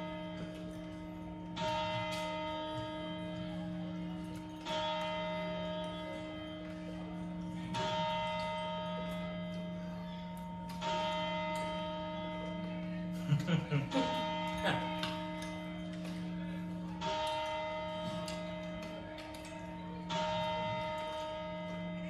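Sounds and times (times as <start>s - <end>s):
clock bell striking: 0.0s - 22.0s.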